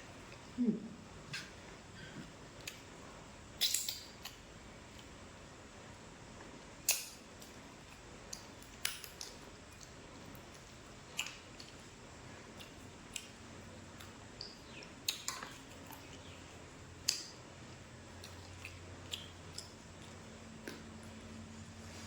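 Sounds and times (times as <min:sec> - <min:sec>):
faint low hum: 0:00.0 - 0:22.0
food being handled and eaten: 0:00.1 - 0:22.0.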